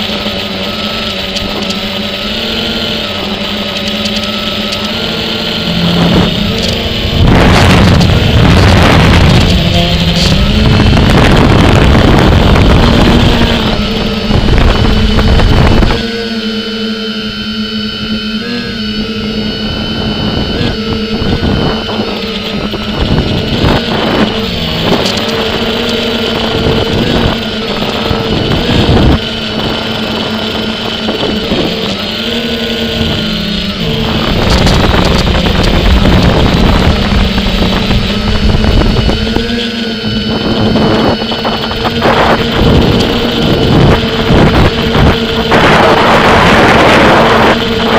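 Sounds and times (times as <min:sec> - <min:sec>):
wind buffeting microphone: 0:00.0 - 0:16.4, 0:17.3 - 0:47.9
drone propellers whirring: 0:00.0 - 0:47.9.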